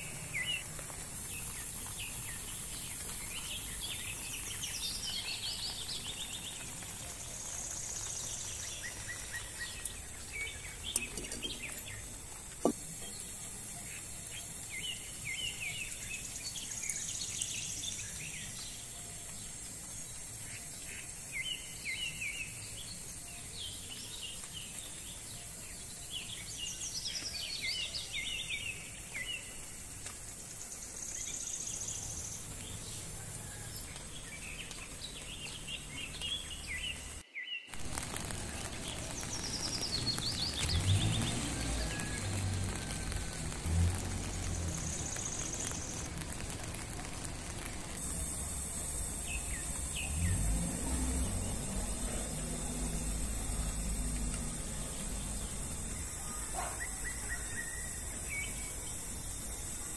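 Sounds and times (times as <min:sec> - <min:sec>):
small birds chirping: 0:00.0 - 0:59.9
steady high hiss: 0:00.0 - 0:59.9.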